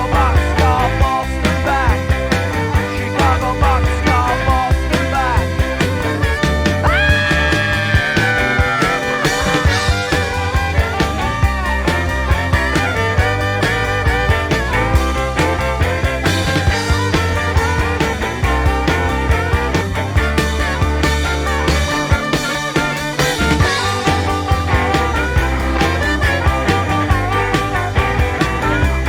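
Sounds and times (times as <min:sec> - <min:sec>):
bass line: 0:00.0 - 0:29.0
drum beat: 0:00.0 - 0:29.0
rock music: 0:00.0 - 0:29.0.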